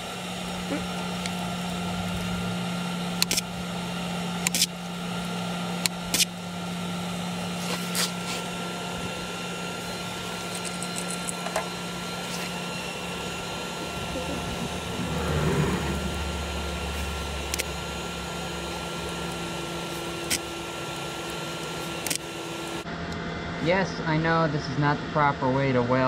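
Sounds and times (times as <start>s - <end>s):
welding arc crackle: 0.0s - 22.9s
welder hum: 0.0s - 23.5s.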